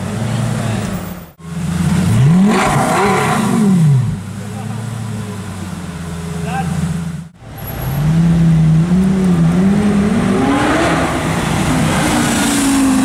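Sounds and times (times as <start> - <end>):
car engine accelerating: 0.1 - 13.0.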